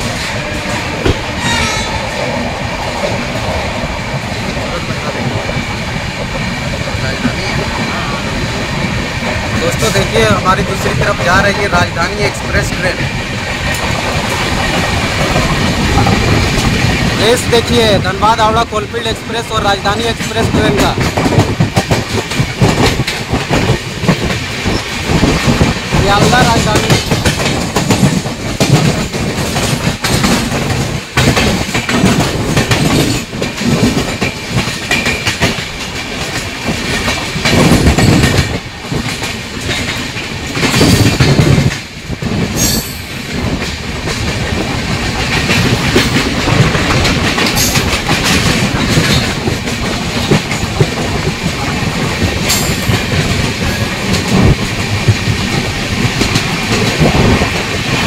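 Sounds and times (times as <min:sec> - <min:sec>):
train wheels clattering: 0:00.0 - 0:58.0.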